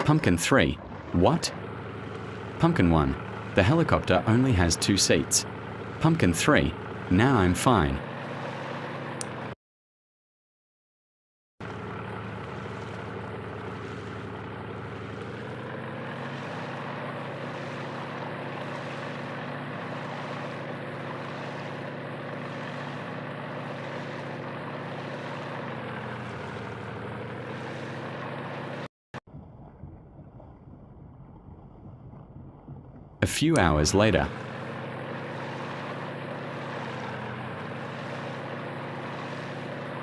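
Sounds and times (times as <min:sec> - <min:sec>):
motorboat engine running: 0:00.0 - 0:09.6, 0:11.6 - 0:40.0.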